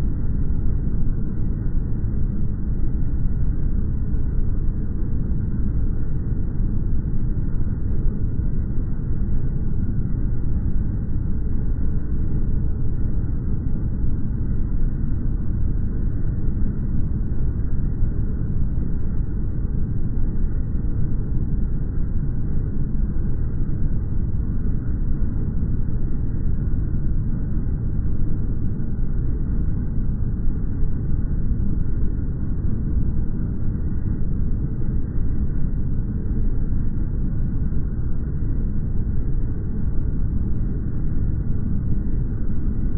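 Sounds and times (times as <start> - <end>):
deep steady rumbling noise: 0.0 - 42.9.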